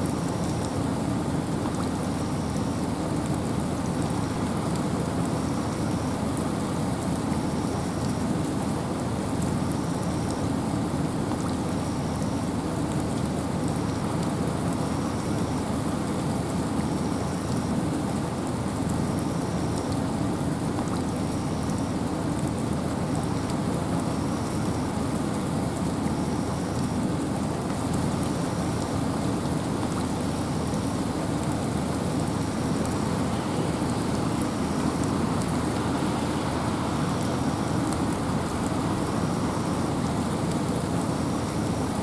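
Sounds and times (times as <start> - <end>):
rain hiss: 0.0 - 42.0.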